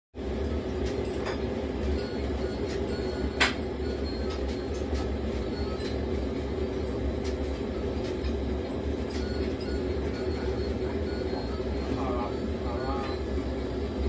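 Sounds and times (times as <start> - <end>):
low mechanical rumble with hum: 0.2 - 14.0.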